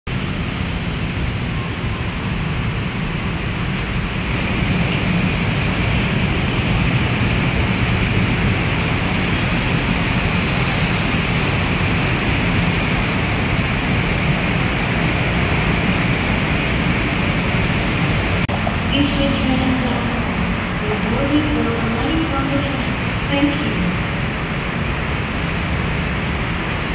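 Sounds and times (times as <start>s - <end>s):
monorail train rumbling: 0.1s - 26.9s.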